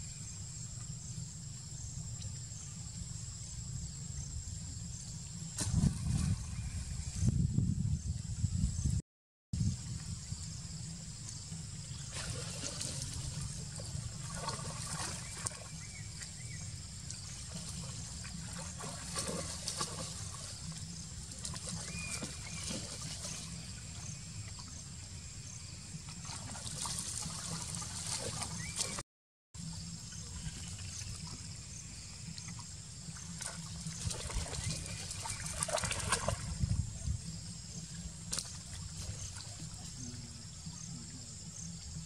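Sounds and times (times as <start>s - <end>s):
water splashing and trickling: 5.2s - 7.3s, 9.7s - 29.0s, 29.6s - 42.0s.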